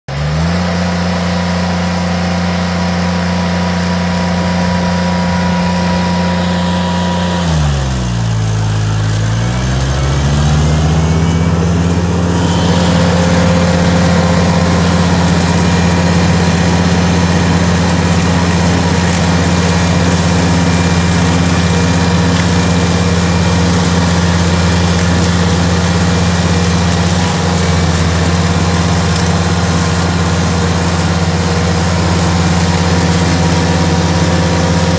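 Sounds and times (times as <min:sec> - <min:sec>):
engine running: 0:00.1 - 0:34.9
flail mower cutting grass: 0:00.1 - 0:34.9.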